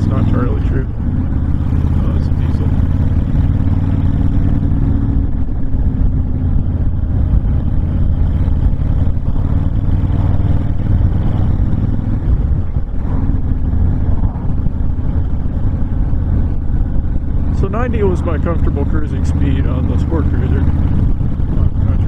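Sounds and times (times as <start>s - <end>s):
motorcycle engine cruising: 0.0s - 22.0s
wind rushing: 0.0s - 22.0s.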